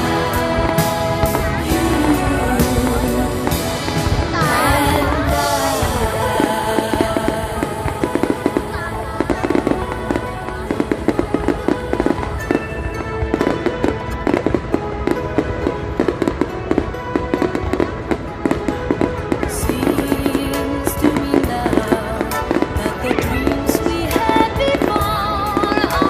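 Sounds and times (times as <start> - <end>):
fireworks cracking and popping: 0.0 - 26.0
music playing: 0.0 - 26.0.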